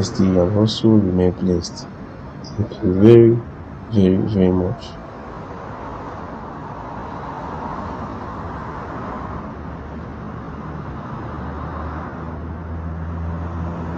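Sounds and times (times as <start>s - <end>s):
road traffic noise: 0.0s - 13.9s
vehicle engine hum: 0.0s - 13.9s.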